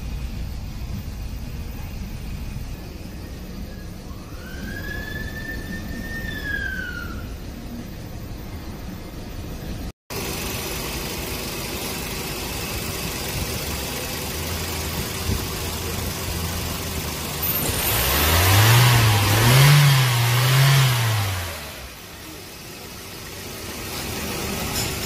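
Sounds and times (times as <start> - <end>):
car engine idling and revving: 0.0 - 4.4, 7.4 - 25.0.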